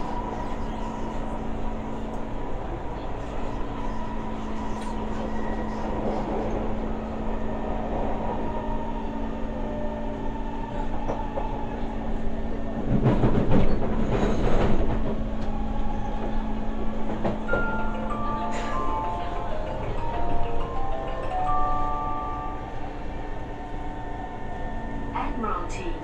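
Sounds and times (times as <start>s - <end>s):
metro car running noise: 0.0s - 26.0s.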